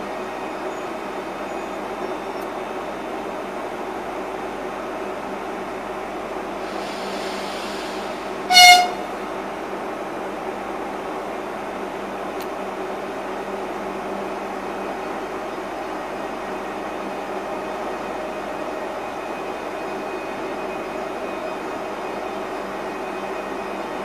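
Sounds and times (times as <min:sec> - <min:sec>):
electric trains humming: 0:00.0 - 0:24.0.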